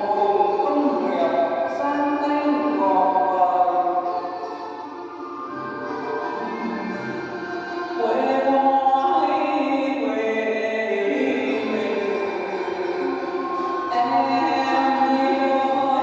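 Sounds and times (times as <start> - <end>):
song with sung melody: 0.0 - 16.0.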